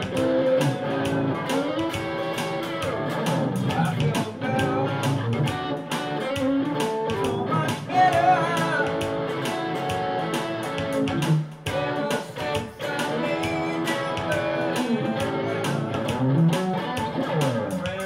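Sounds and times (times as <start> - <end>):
electric guitar playing: 0.0 - 18.0
percussive beat: 0.0 - 18.0.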